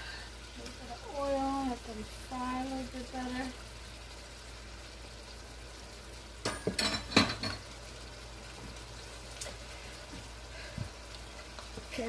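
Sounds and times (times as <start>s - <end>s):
potatoes frying in oil: 0.0s - 12.0s.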